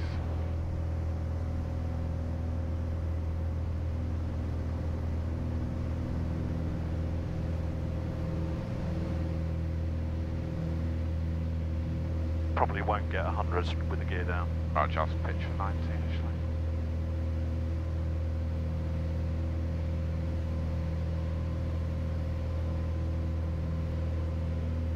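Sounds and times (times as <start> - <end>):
aircraft engine and propeller drone: 0.0 - 24.9.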